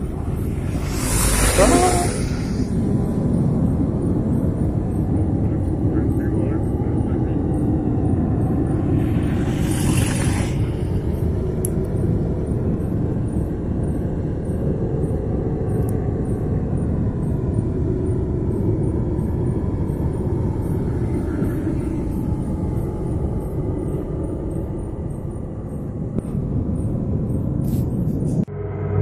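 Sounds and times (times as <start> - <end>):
low rumbling: 0.0 - 29.0.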